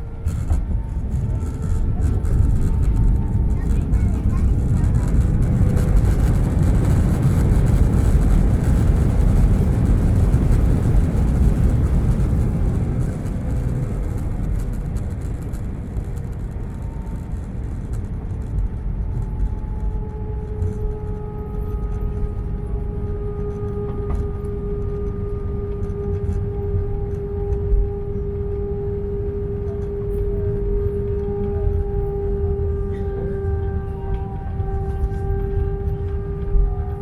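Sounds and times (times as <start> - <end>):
engine and airflow rumble: 0.0 - 37.0
jet engine whine: 0.0 - 37.0.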